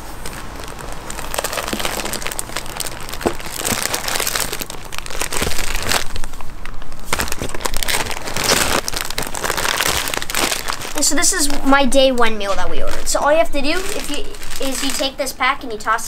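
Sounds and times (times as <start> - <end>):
plastic bags crinkling: 0.0 - 15.3.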